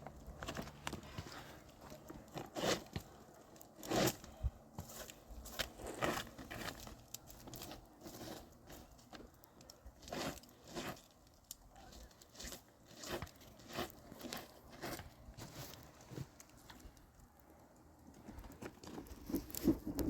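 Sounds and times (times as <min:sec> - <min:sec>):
faint snow crunching: 0:00.3 - 0:20.0.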